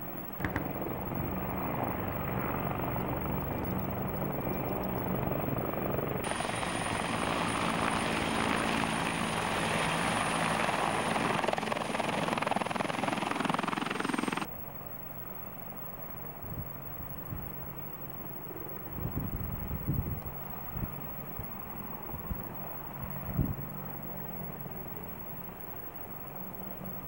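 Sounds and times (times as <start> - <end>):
helicopter rotor beat: 0.0 - 27.0
high turbine whine: 0.0 - 27.0.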